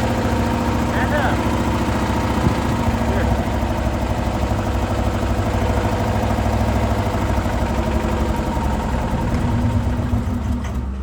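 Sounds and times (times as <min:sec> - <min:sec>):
car engine idling with knocking: 0:00.0 - 0:11.0.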